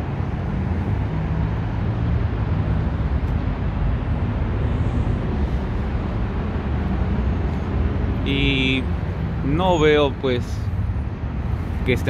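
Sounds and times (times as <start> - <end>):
passing cars rumbling: 0.0 - 12.0.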